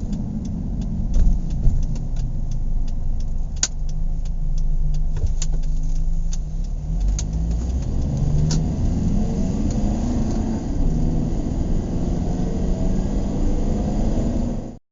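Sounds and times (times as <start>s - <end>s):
car engine hum: 0.0s - 14.8s
road noise: 0.0s - 14.8s.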